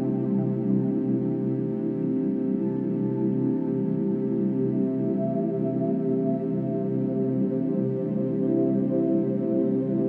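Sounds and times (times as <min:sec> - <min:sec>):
ambient music with held tones: 0:00.0 - 0:10.0.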